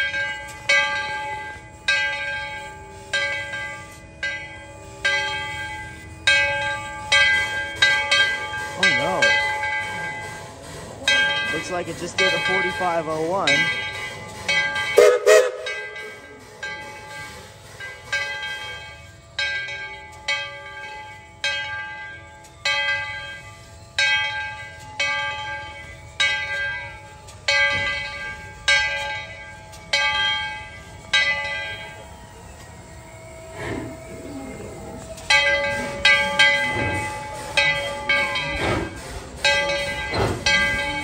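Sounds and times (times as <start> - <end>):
locomotive bell ringing: 0.0 - 41.0.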